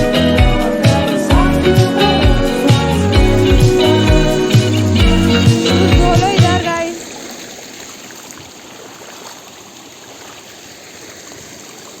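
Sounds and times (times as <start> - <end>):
stream flowing water: 2.2 - 12.0.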